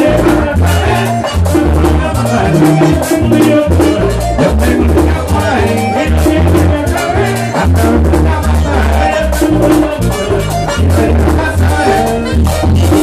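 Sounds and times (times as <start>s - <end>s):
accordion: 0.0s - 13.0s
drum: 0.0s - 13.0s
live band playing: 0.0s - 13.0s
saxophone: 0.0s - 13.0s.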